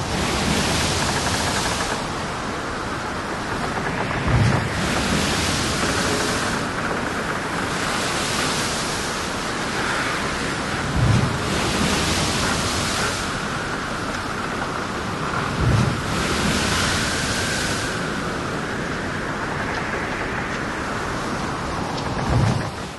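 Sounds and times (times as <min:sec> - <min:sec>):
sea washing: 0:00.0 - 0:22.9
wind buffeting microphone: 0:00.0 - 0:22.9.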